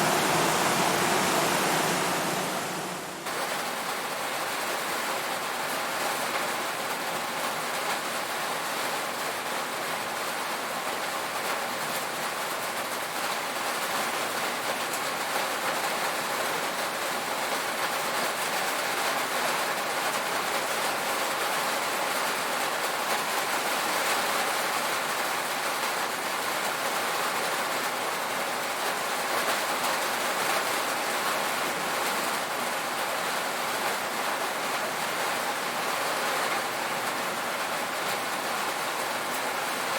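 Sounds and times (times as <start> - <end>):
rain drumming on a tin roof: 0.0 - 3.9, 5.9 - 39.9.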